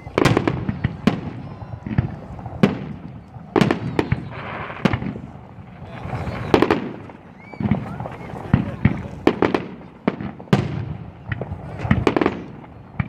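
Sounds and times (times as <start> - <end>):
fireworks bursting with sharp bangs: 0.0 - 13.0.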